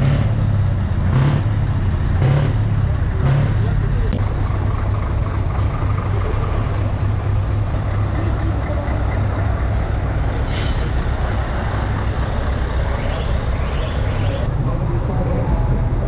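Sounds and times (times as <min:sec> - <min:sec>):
truck engine driving past: 0:00.0 - 0:16.0.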